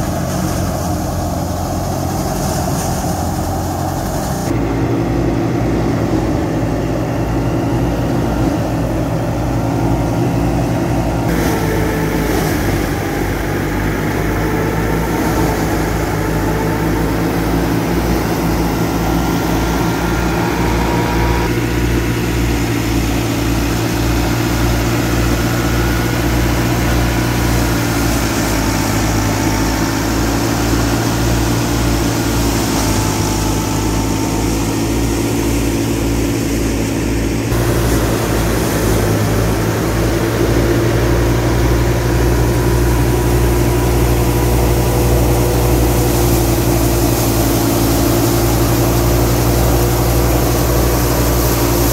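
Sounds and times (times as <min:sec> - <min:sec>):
thresher drum and belts running: 0:00.0 - 0:51.9
tractor diesel engine running: 0:00.0 - 0:51.9.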